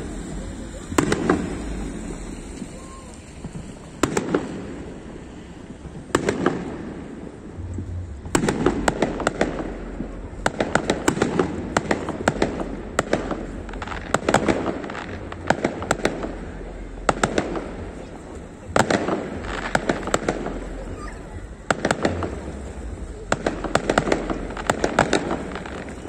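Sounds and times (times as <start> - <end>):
firework pops and crackling: 0.0 - 7.5, 8.2 - 26.0
firework shells booming: 0.0 - 26.0.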